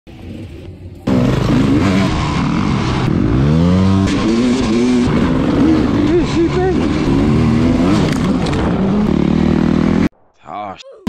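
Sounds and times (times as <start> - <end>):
dirt bike engines revving: 1.0 - 10.1.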